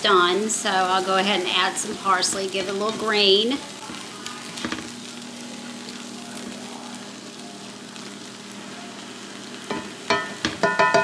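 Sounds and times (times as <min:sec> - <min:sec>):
vegetables sizzling in skillet: 0:00.0 - 0:11.0.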